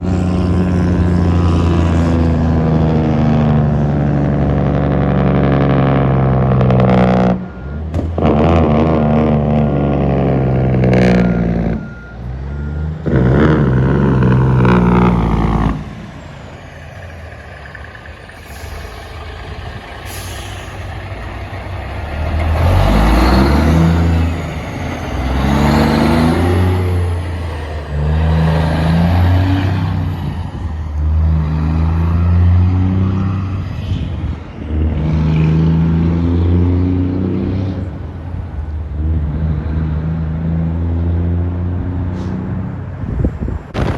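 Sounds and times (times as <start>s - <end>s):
road noise: 0.0s - 43.9s
truck diesel engines passing: 0.0s - 43.9s.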